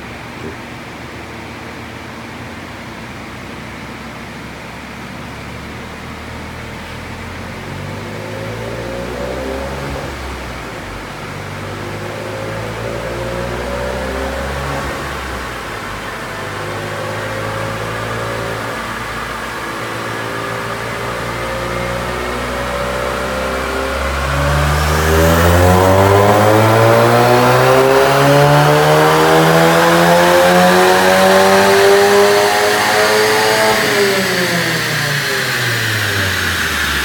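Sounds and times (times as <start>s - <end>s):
car engine revving on dyno: 0.0s - 37.0s.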